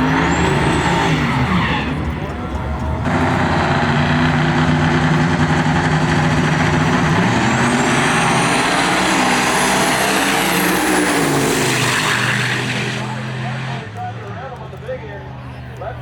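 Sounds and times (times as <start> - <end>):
engine at full throttle: 0.0 - 14.3.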